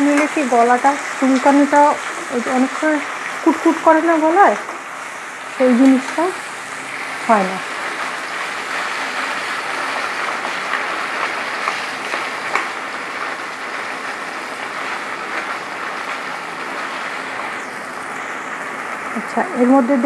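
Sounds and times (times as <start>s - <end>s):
leaves sizzling in hot oil: 0.0s - 20.0s.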